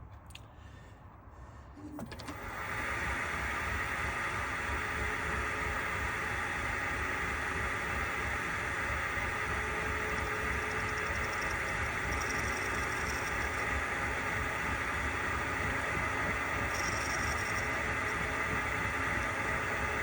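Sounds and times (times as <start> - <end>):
metal lathe running: 2.4 - 20.0.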